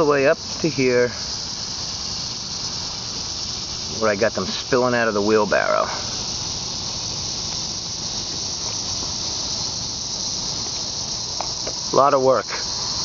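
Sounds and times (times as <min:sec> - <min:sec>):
insects chorus drone: 0:00.0 - 0:13.0.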